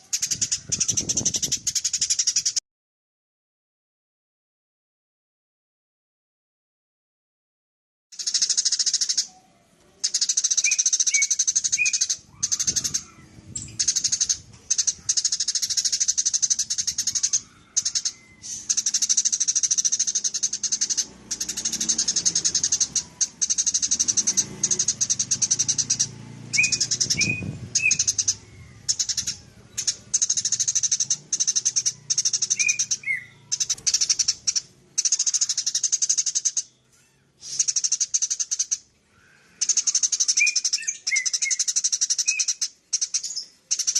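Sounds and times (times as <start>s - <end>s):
sparrows chattering: 0.0s - 2.6s, 8.2s - 43.9s.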